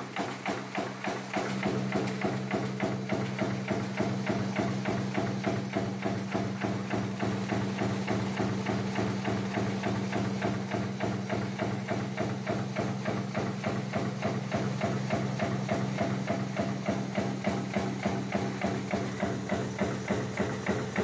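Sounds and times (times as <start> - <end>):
machine clacking rapidly: 0.0 - 21.0.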